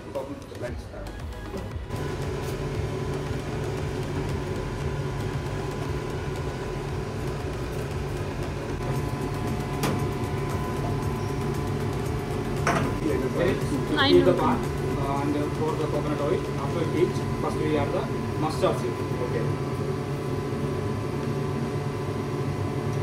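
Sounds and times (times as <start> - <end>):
kitchen equipment humming: 0.0 - 23.0.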